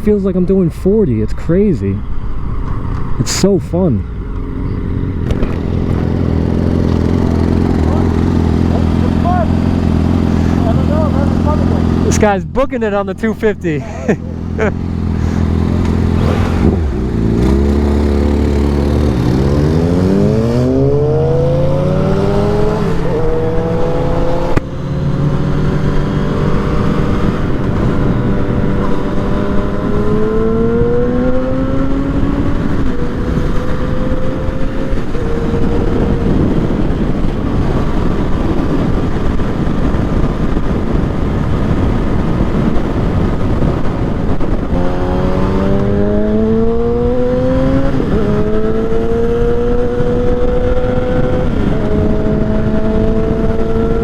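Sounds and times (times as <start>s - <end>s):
wind rush on microphone: 2.0s - 12.7s, 13.7s - 54.0s
motorcycle engine accelerating: 2.1s - 12.4s, 13.9s - 54.0s.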